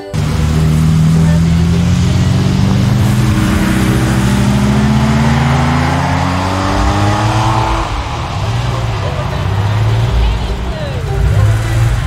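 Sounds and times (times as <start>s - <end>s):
vehicle engine accelerating: 0.0s - 12.0s.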